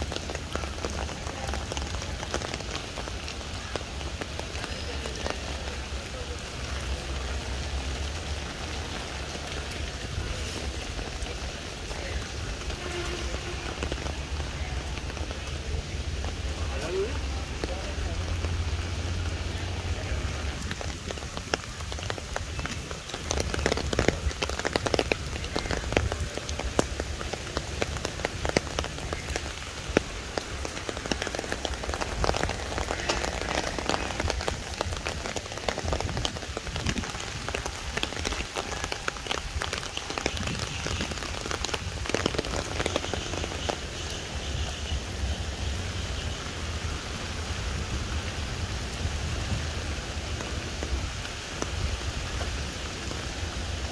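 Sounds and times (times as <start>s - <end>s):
raindrops ticking nearby: 0.0s - 53.9s
steady rain hissing: 0.0s - 53.9s.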